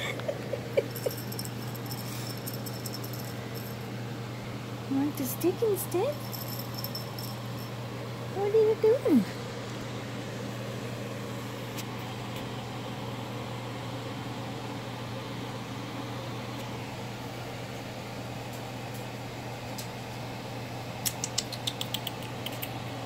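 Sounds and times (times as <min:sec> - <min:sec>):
room noise hum: 0:00.0 - 0:23.0.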